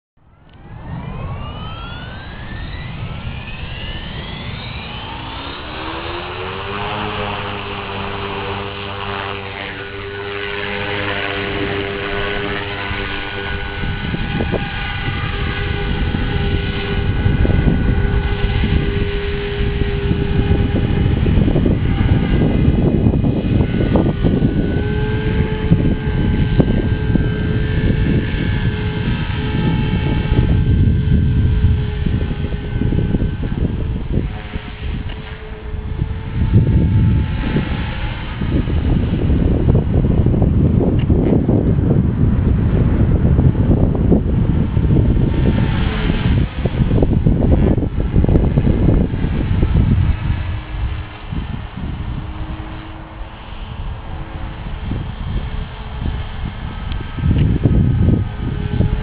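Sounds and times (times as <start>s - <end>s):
rc helicopter motor whine: 0.2s - 59.0s
wind noise on microphone: 0.2s - 59.0s.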